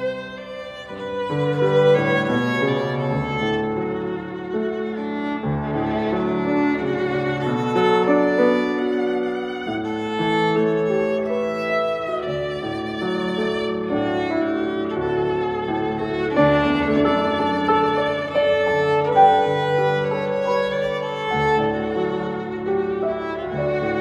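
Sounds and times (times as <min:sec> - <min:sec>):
grand piano: 0:00.0 - 0:24.0
violin melody: 0:00.0 - 0:24.0.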